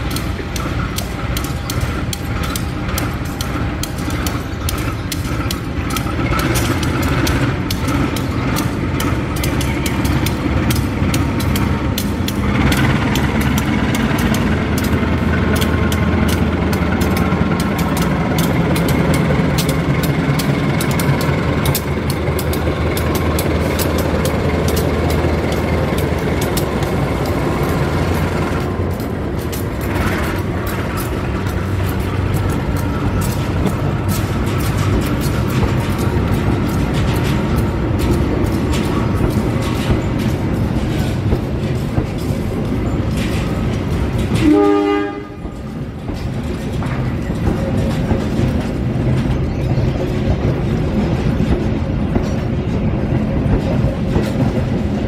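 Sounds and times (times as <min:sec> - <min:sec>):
locomotive engine drone: 0:00.0 - 0:55.0
wheels clicking on track: 0:00.0 - 0:55.0.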